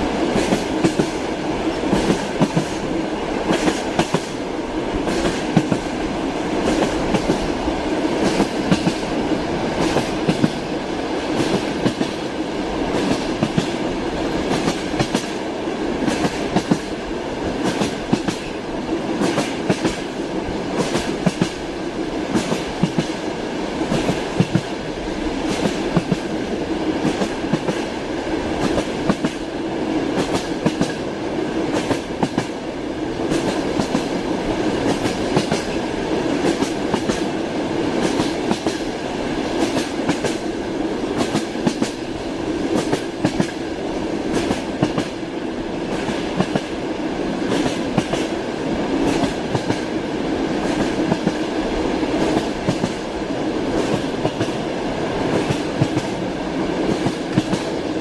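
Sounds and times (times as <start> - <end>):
train wheels clickety-clack: 0.0 - 58.0.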